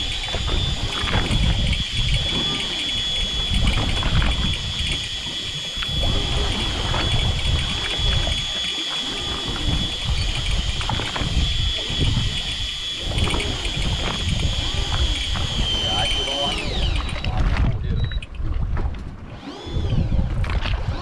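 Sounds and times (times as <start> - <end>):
steady high-pitched tone: 0.0 - 17.4.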